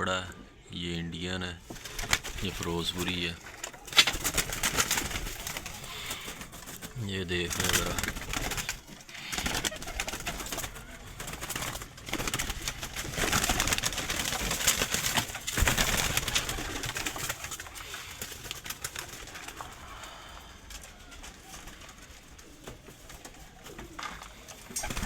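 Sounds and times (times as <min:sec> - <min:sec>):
pigeons cooing: 0:00.0 - 0:25.0
rustling and scuffling: 0:01.6 - 0:25.0.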